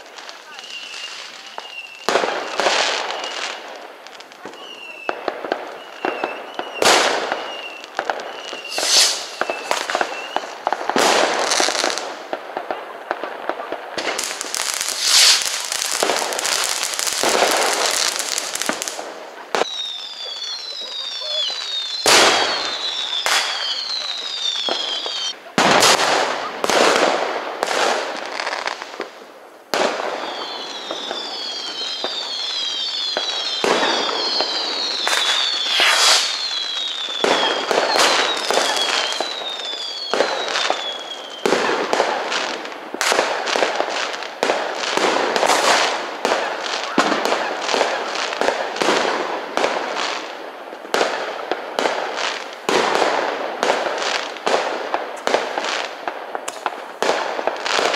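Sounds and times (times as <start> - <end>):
fireworks banging: 0.0 - 57.9
whistling fireworks: 0.0 - 57.9.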